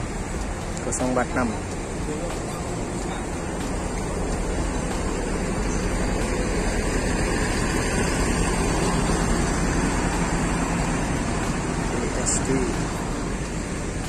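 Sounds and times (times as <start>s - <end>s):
bus diesel engine humming: 0.0s - 14.0s.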